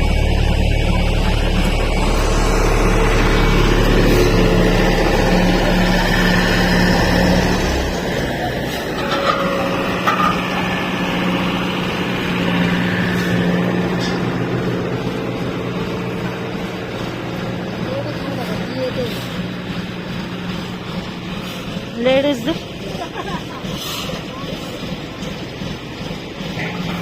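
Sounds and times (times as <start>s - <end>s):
heavy vehicle engine running: 0.0s - 27.0s.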